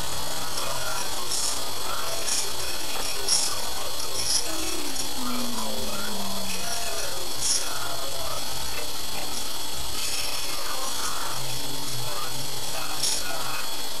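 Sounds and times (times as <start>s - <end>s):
high electronic whine: 0.0s - 14.0s
steady raspy noise: 0.0s - 14.0s.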